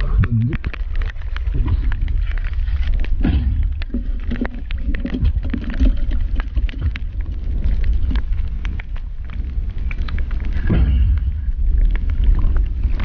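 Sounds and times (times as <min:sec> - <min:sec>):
sharp underwater clicks: 0:00.0 - 0:13.0
underwater water rumble: 0:00.0 - 0:13.0.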